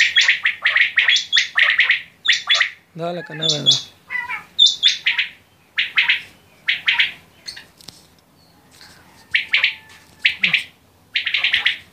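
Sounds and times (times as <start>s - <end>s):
quail chirping: 0.0s - 7.8s, 8.4s - 11.9s.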